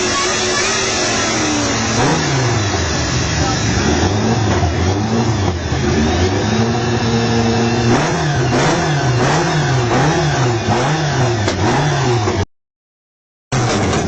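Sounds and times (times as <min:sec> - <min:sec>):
car engine revving in blips: 0:00.0 - 0:12.5, 0:13.5 - 0:14.0.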